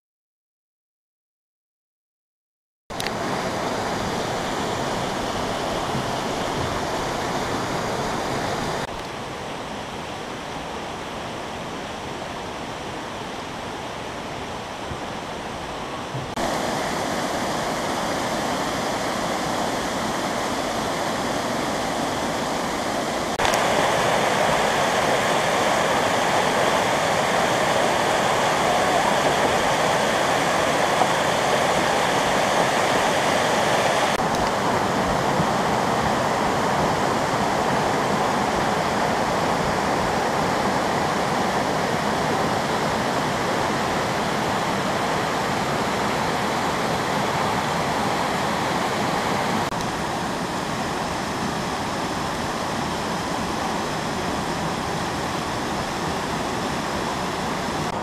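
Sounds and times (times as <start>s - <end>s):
water rushing over rocks: 2.9s - 58.0s.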